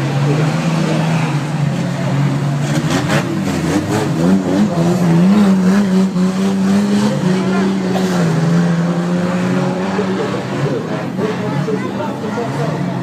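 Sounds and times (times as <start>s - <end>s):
racing car engines revving: 0.0s - 13.0s.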